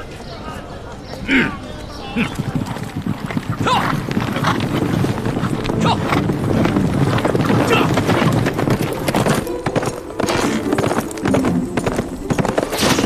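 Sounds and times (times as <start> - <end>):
horses galloping: 0.1 - 13.0.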